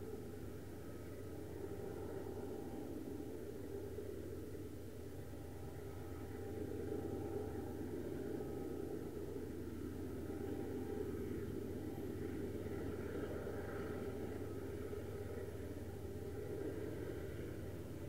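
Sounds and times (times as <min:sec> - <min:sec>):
distant locomotive engine rumble: 0:00.0 - 0:18.0.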